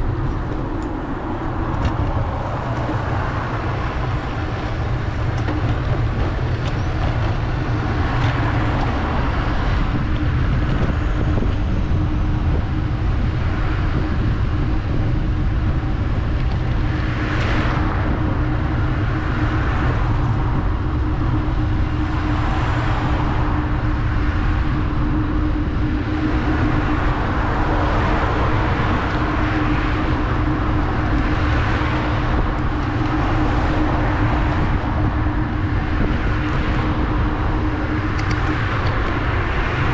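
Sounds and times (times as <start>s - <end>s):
passing vehicles: 0.0s - 39.9s
steady hum: 0.0s - 39.9s
traffic rumble: 0.0s - 39.9s.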